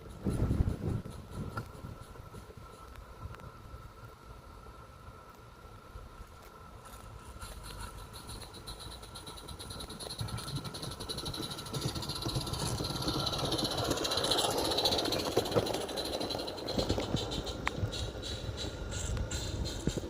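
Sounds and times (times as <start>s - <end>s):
model steam locomotive running: 0.0s - 6.0s, 6.6s - 20.0s.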